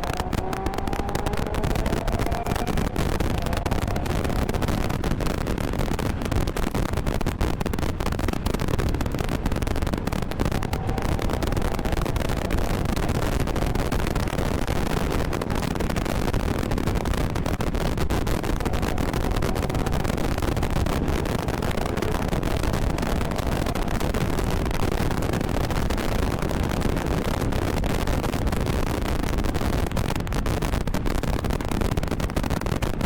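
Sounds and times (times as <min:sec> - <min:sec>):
car engine at speed: 0:00.0 - 0:30.0
wind buffeting microphone: 0:00.0 - 0:33.0.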